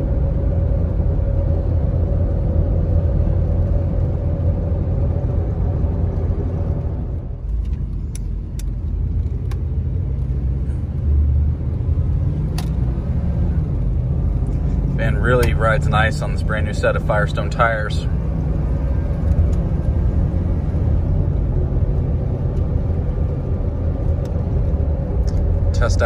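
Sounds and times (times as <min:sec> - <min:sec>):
road rumble: 0:00.0 - 0:26.0
steady whine: 0:00.0 - 0:26.0
van engine running: 0:00.0 - 0:26.0.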